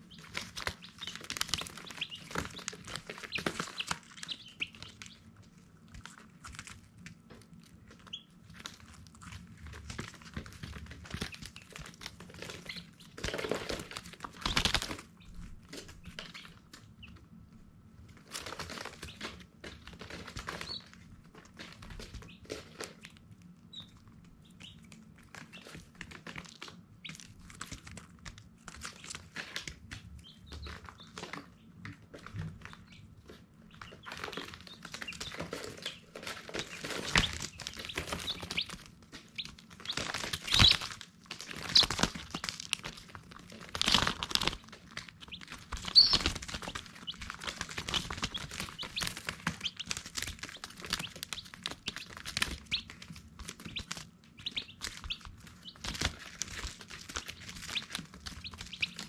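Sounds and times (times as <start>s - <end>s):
chicks peeping: 0.0s - 59.0s
clicks and rustles: 0.1s - 17.3s, 18.0s - 59.0s.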